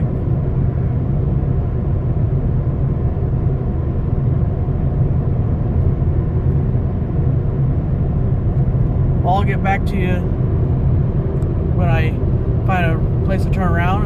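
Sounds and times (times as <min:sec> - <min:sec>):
car engine rumble: 0:00.0 - 0:14.0
tyre road noise: 0:00.0 - 0:14.0.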